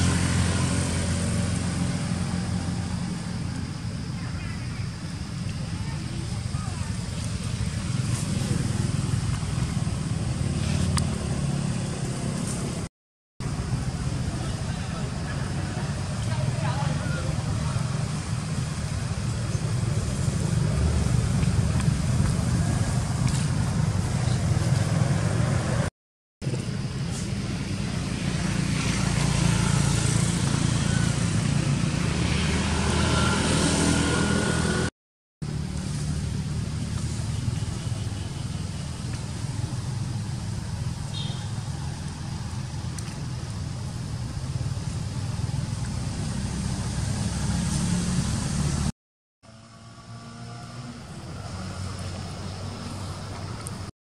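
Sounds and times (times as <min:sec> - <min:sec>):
low outdoor rumble: 0:00.0 - 0:33.3, 0:34.0 - 0:47.2.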